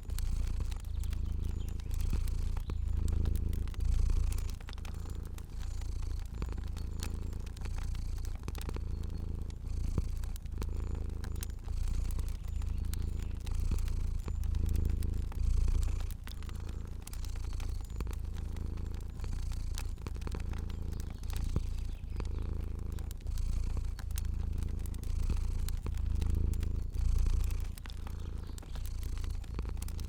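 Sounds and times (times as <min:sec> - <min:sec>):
cat purring: 0:00.0 - 0:30.0
fire crackling and popping: 0:00.0 - 0:30.0.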